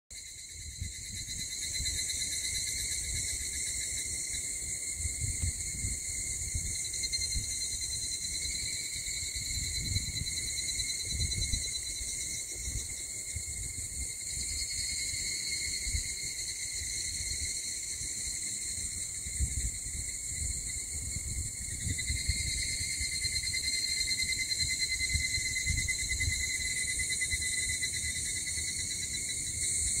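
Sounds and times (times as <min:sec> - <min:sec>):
cicadas singing: 0:00.1 - 0:30.0.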